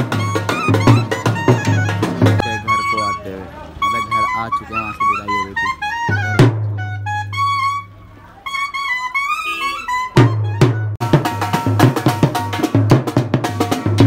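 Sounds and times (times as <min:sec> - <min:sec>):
brass melody: 0:00.0 - 0:14.0.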